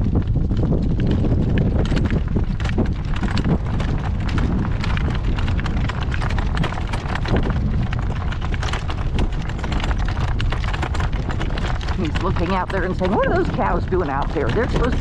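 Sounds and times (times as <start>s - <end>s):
cart rumbling: 0.0s - 15.0s
horse hooves clip-clopping: 0.0s - 15.0s.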